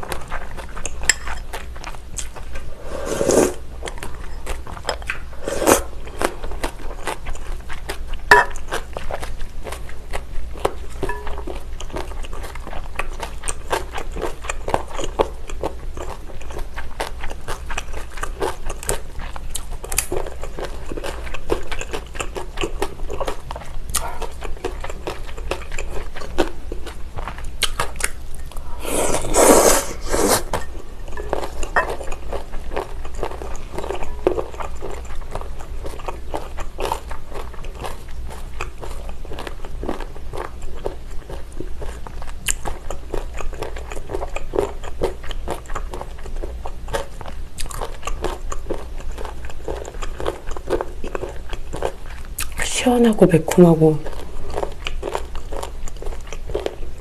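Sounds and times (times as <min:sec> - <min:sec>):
chewing with wet clicks: 0:00.0 - 0:02.7, 0:03.8 - 0:05.3, 0:06.0 - 0:28.7, 0:30.5 - 0:52.6, 0:54.0 - 0:57.0.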